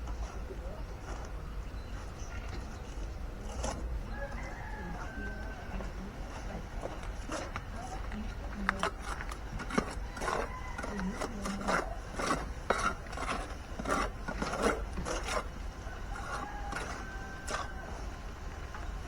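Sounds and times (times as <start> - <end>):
hand tools scraping and knocking: 0.0 - 18.8.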